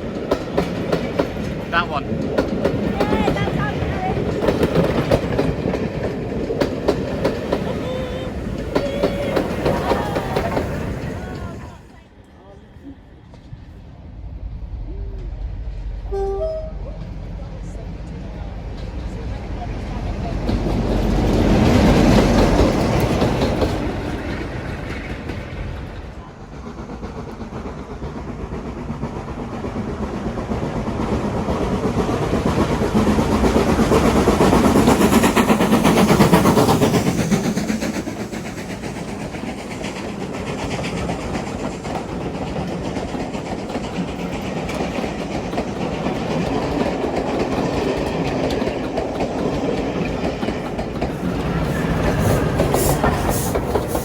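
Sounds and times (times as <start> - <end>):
train wheels clattering over rail joints: 0.0 - 12.0, 18.1 - 54.0.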